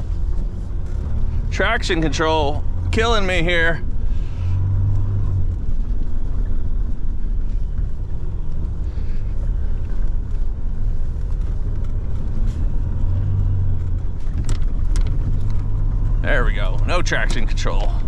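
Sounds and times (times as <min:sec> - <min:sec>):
engine and tyre rumble: 0:00.0 - 0:18.0
snow pushing against vehicle: 0:00.0 - 0:18.0.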